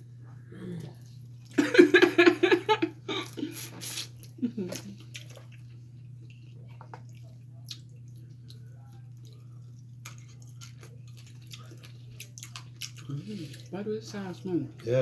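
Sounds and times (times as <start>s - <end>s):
steady low hum: 0.0s - 15.0s
wet eating and chewing sounds: 0.3s - 1.6s, 3.1s - 15.0s.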